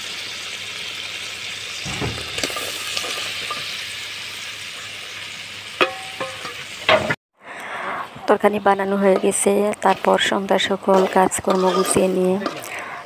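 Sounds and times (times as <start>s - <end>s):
curry sizzling in a pan: 0.0s - 7.2s, 8.3s - 13.0s.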